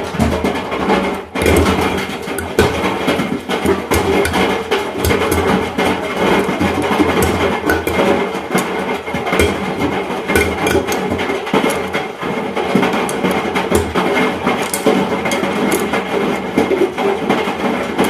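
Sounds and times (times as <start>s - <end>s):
ice blocks banging in washing machine: 0.0s - 18.0s.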